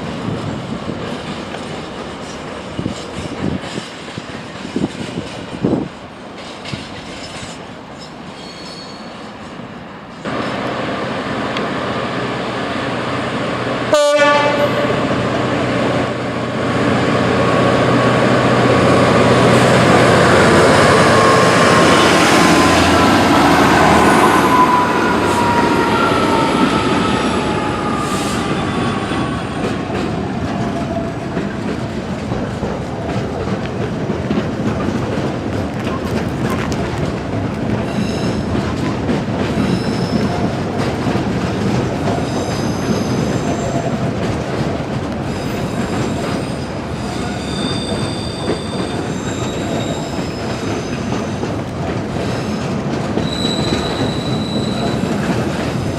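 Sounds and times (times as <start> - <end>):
train rumbling past: 0.0 - 55.9.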